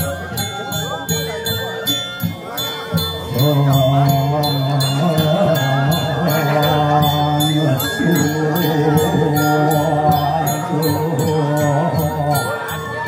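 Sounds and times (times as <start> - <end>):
voices chanting in unison: 0.0 - 13.0.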